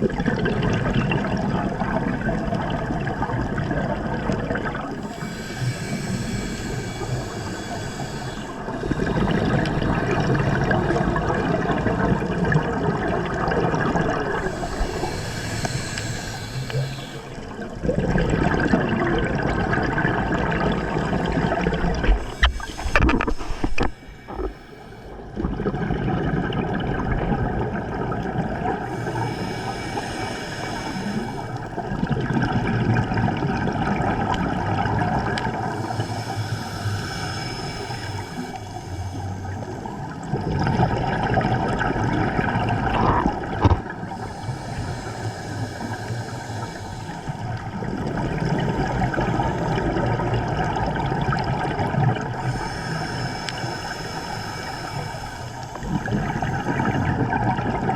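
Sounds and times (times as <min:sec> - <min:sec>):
water sloshing and gurgling: 0:00.0 - 0:57.9.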